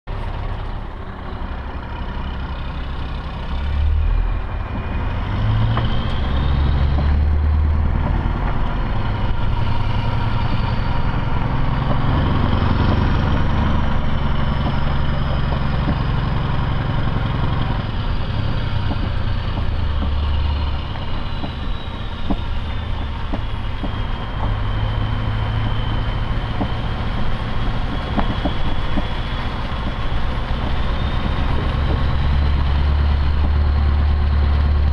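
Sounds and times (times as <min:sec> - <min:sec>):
truck diesel engine from cab: 0:00.1 - 0:34.9.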